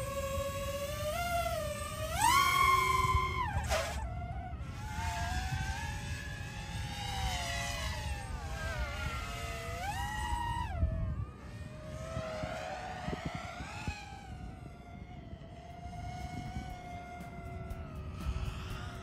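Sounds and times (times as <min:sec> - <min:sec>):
drone propellers whining: 0:00.0 - 0:19.0
low wind rumble: 0:00.0 - 0:19.0.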